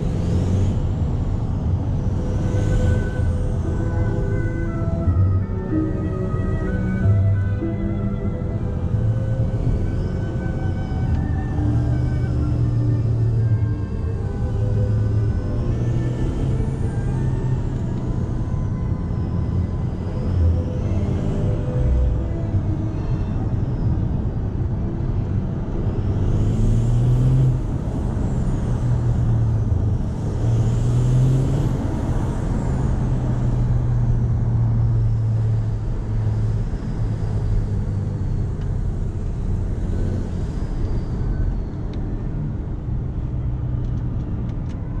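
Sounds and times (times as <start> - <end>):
diesel engine drone: 0.0 - 45.0
tyre and road noise: 0.0 - 45.0.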